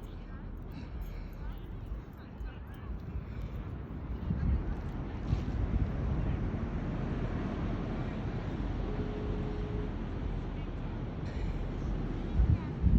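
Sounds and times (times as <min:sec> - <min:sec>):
wind buffeting microphone: 0:00.0 - 0:08.9, 0:11.1 - 0:12.9.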